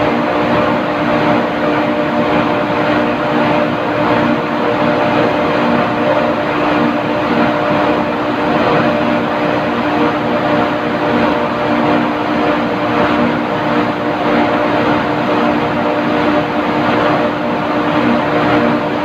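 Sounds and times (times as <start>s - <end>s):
industrial machinery drone: 0.0s - 19.0s.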